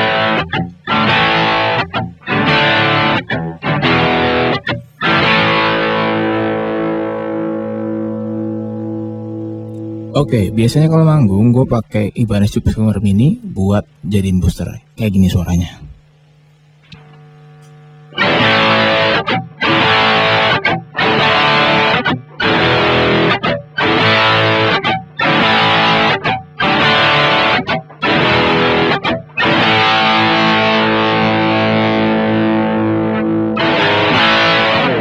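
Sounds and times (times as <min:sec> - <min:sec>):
distorted electric guitar chords: 0:00.0 - 0:35.0.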